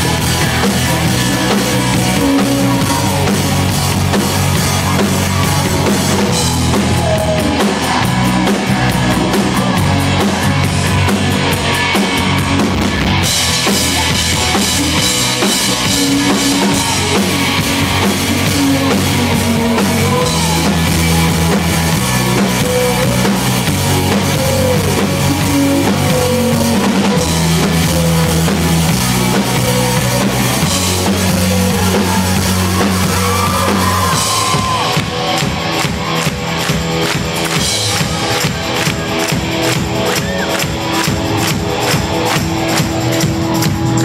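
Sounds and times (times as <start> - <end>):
live rock band playing: 0.0 - 44.0
pounding beat: 0.0 - 44.0.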